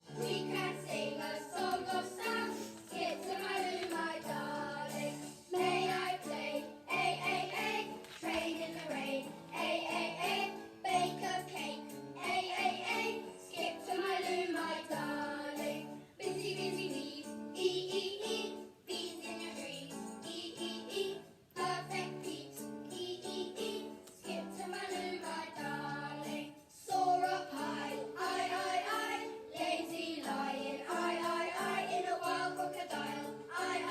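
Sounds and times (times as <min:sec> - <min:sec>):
children's song singing: 0:00.0 - 0:33.9.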